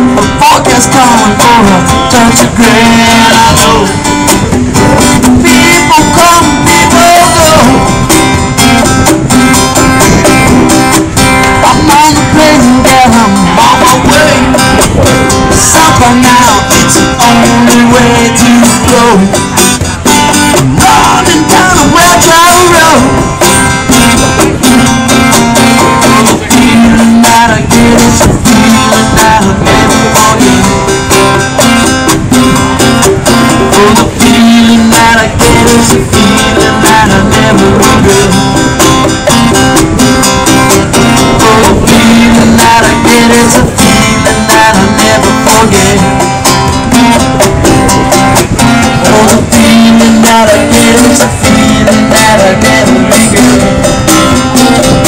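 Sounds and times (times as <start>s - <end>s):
acoustic guitar: 0.0s - 55.0s
conga drums: 0.0s - 55.0s.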